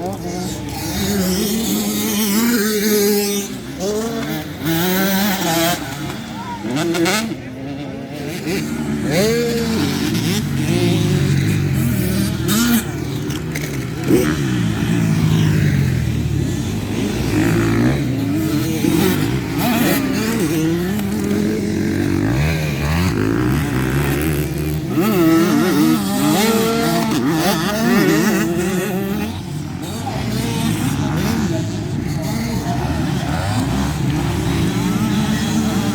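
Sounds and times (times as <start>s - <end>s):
motocross bike engines revving: 0.0s - 35.9s.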